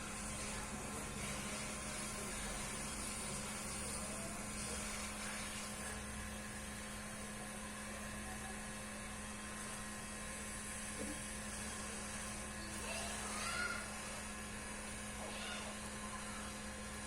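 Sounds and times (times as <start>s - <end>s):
hot-air blower fan hiss: 0.0s - 17.0s.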